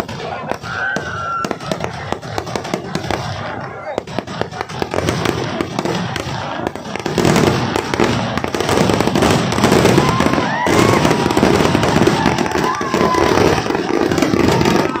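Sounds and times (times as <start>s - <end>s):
firecracker bangs crackling: 0.0s - 15.0s.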